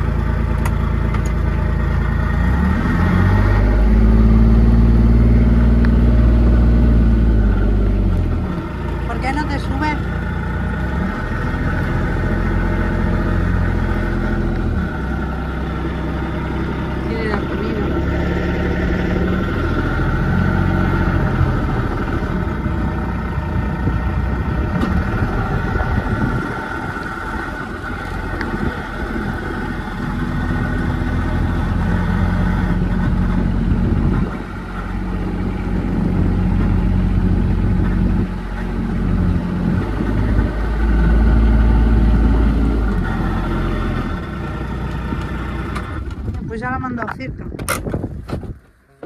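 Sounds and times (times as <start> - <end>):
vehicle engine revving: 0.0 - 46.7.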